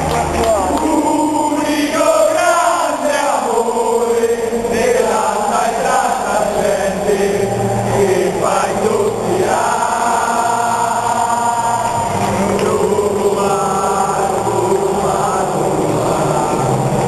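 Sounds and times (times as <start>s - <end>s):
crowd noise: 0.0s - 17.0s
crowd singing a chant: 0.0s - 17.0s.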